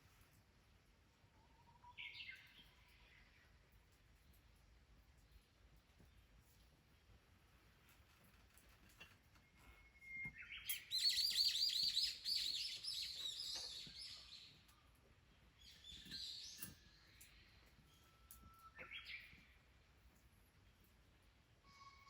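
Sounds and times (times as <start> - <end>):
songbird chirping: 1.2 - 7.8, 9.0 - 22.0.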